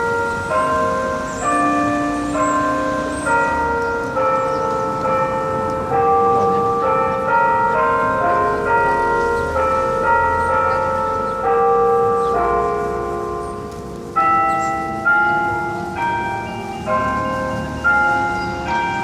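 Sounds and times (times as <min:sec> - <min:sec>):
tower bells ringing: 0:00.0 - 0:19.0.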